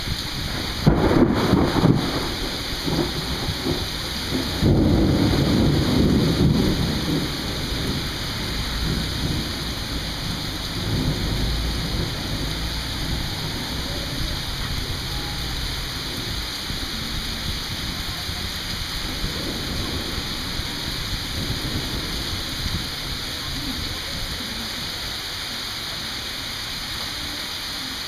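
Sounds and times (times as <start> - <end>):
rolling thunder: 0.0 - 24.3
steady rain: 0.0 - 28.0.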